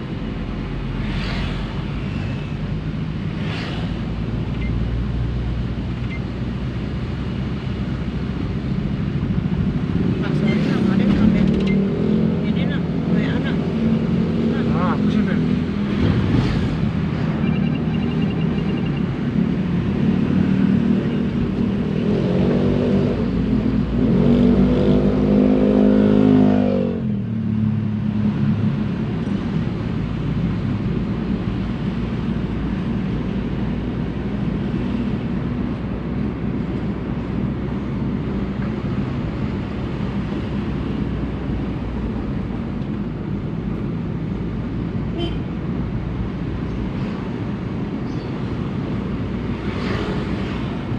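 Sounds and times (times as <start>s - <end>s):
car engine revving and idling: 0.0s - 50.9s.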